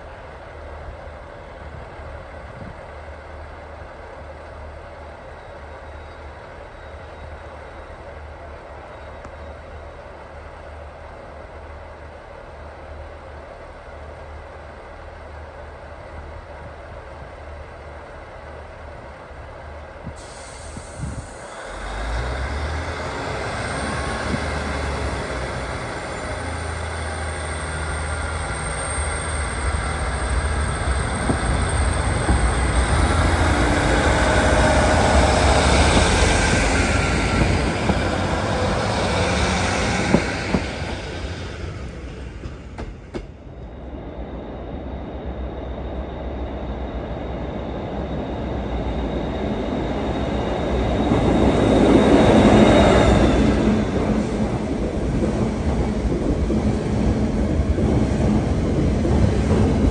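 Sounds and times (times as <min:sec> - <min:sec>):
train rumbling through station: 0:00.0 - 0:59.9.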